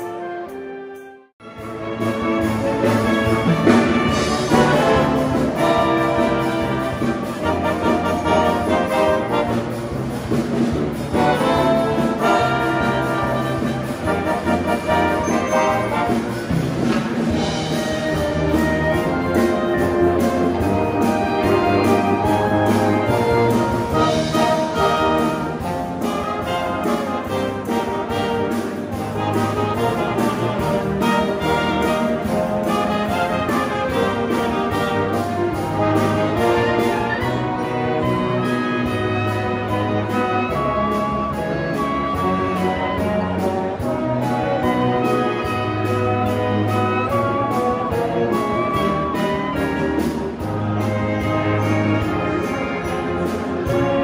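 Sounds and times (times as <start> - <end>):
military brass band playing: 0.0 - 54.0.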